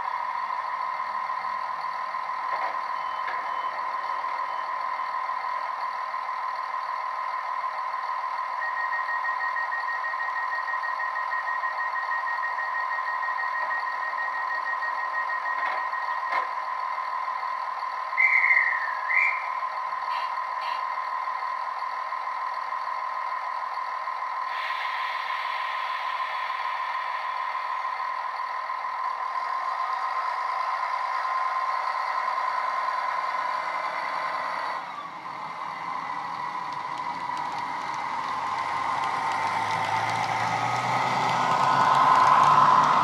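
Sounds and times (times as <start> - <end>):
diesel train engine through small speakers: 0.0 - 43.0.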